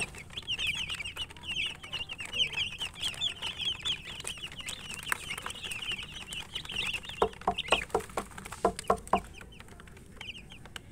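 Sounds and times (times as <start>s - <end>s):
hen clucking: 0.0s - 9.6s
baby chicks peeping: 0.0s - 10.9s.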